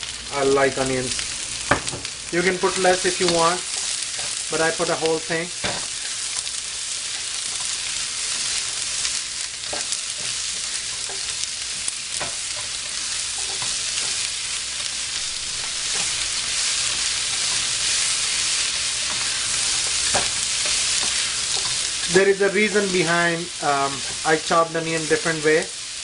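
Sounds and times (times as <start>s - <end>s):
vegetables sizzling in wok: 0.0s - 26.0s
spatula scraping pan: 2.4s - 25.2s.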